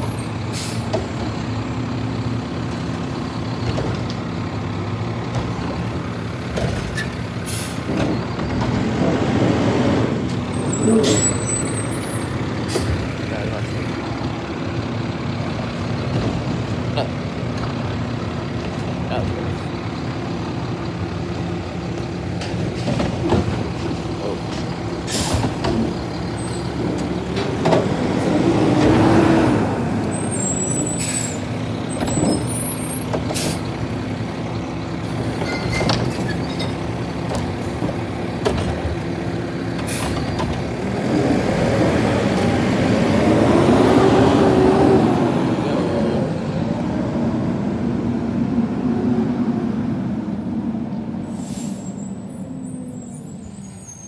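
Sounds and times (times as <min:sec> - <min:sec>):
diesel truck engine: 0:00.0 - 0:54.0.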